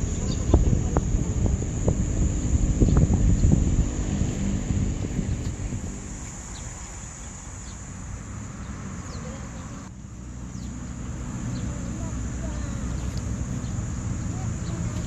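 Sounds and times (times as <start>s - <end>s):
high-pitched insect drone: 0.0s - 15.0s
low wind rumble: 0.0s - 15.0s.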